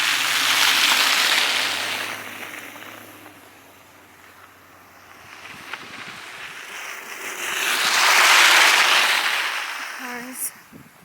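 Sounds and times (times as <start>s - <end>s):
car engine hum: 0.0s - 10.7s
tyre hiss on wet street: 0.0s - 10.8s.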